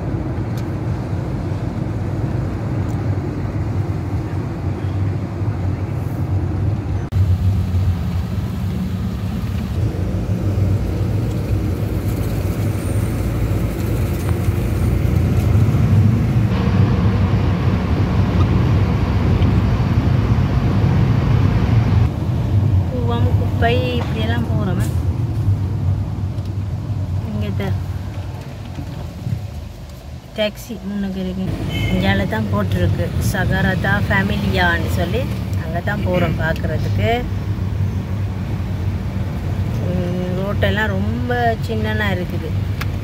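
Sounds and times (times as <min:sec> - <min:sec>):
road and engine rumble in car: 0:00.0 - 0:43.0.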